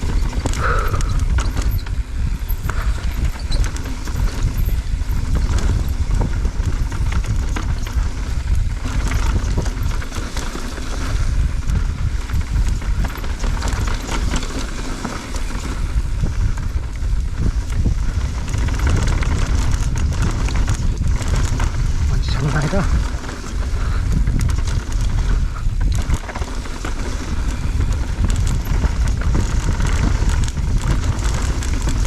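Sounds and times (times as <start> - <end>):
bike tyres rattling over stones: 0.0 - 32.0
wind rumble on microphone: 0.0 - 32.0.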